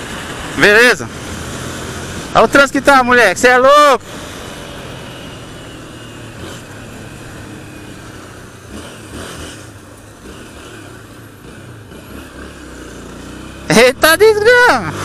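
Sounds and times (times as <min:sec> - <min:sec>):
motorcycle engine: 0:00.0 - 0:15.0
road and traffic noise: 0:00.0 - 0:15.0.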